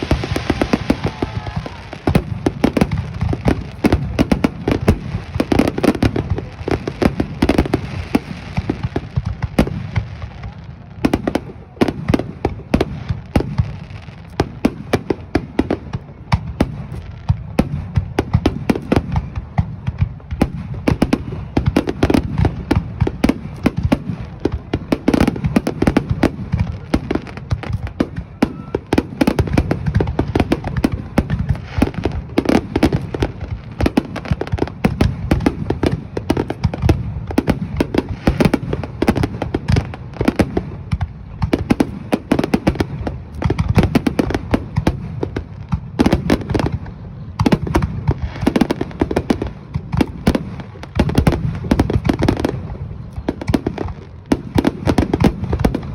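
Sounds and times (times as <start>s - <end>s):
firework cracks and bangs: 0.0s - 55.9s.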